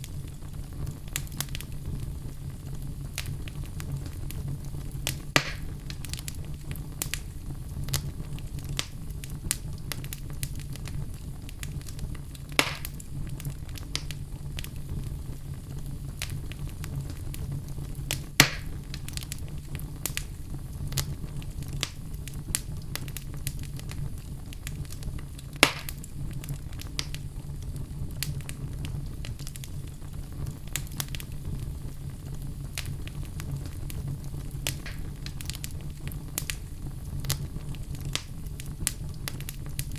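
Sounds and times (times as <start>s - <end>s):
low rumble of fire: 0.0s - 39.9s
wood fire crackling: 0.0s - 39.9s.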